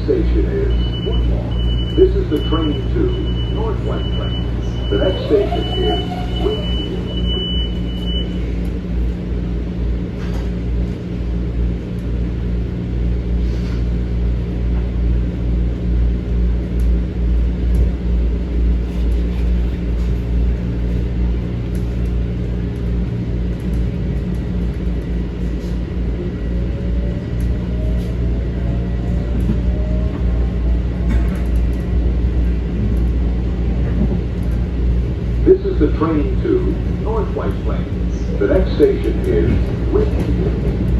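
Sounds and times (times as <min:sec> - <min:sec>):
constant hum: 0:00.0 - 0:40.9
train wheels rumbling on rail: 0:00.0 - 0:40.9.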